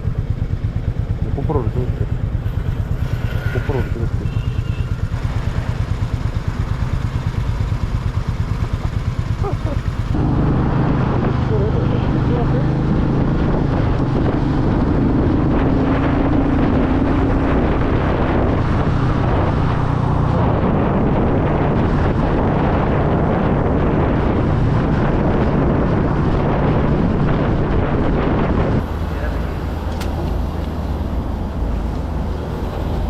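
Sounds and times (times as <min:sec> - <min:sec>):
motorcycle engine running: 0:00.0 - 0:33.0
wind buffeting microphone: 0:00.0 - 0:33.0.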